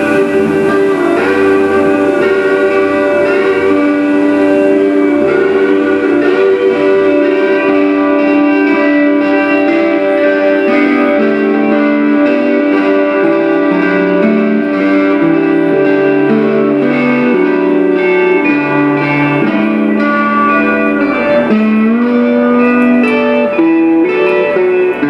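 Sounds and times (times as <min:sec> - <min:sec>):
guitar held notes with slide: 0:00.0 - 0:25.0.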